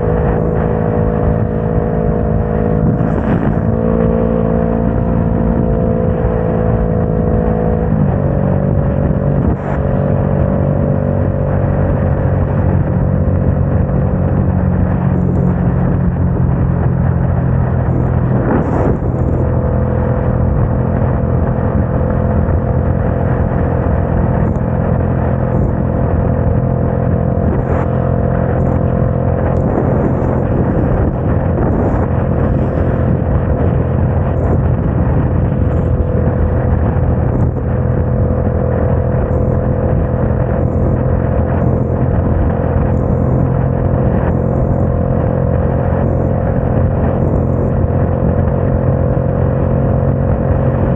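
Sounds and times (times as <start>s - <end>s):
motorcycle engine cruising: 0.0s - 50.9s
tyre noise on wet road: 0.0s - 50.9s
wind rushing: 0.0s - 50.9s.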